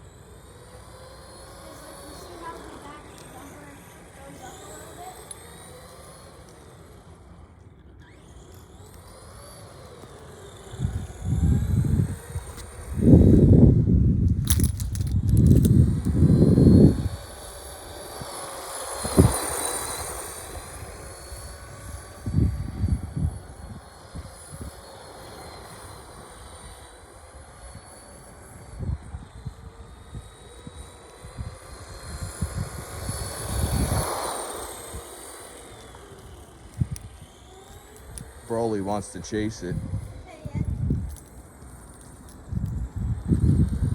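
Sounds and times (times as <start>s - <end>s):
rc car motor whining: 0.0s - 43.9s.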